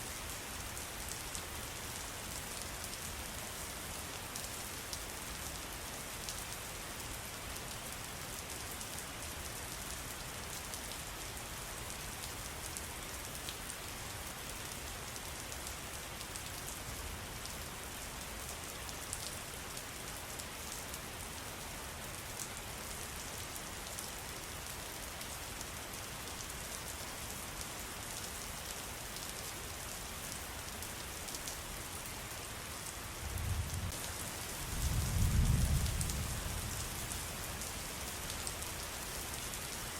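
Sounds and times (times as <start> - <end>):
rain-like water hiss: 0.0 - 39.9.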